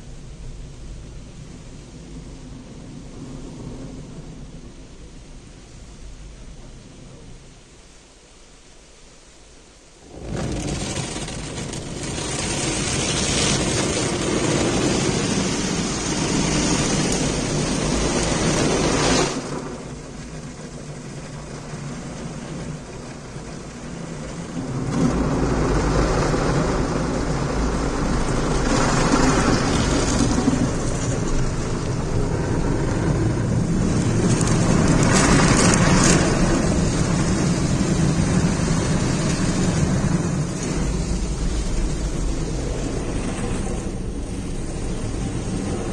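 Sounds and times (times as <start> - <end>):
car wash water spray and brushes: 0.0 - 7.4, 9.9 - 45.9.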